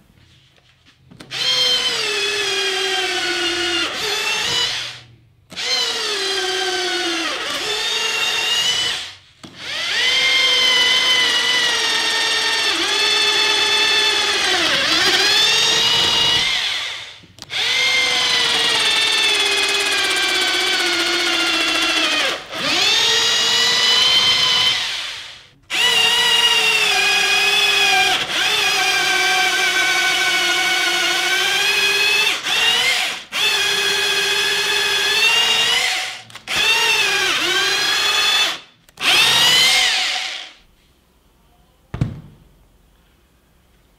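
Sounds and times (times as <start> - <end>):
drill motor whining: 1.3 - 40.6
power drill drilling into wood: 1.3 - 40.6.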